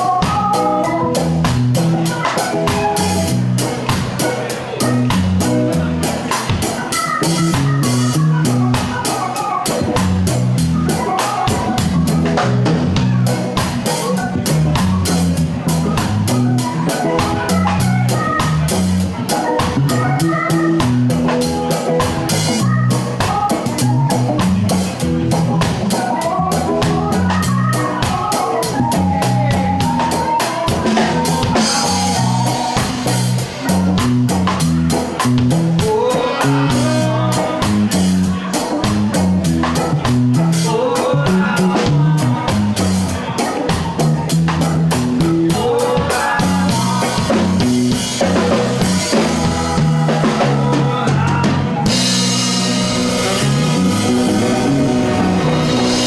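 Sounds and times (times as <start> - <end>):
bass line: 0.0 - 56.0
drum kit beat with rimshots: 0.0 - 56.0
guitar: 0.0 - 56.0.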